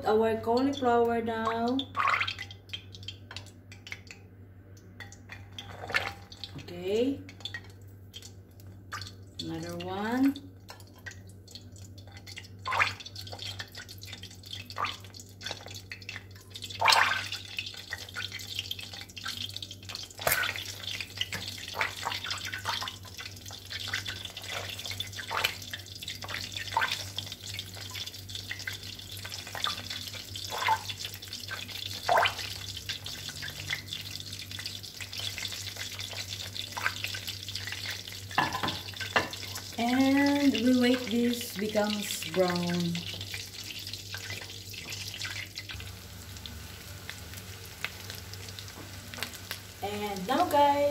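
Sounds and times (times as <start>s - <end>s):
food sizzling in oil: 5.1s - 50.9s.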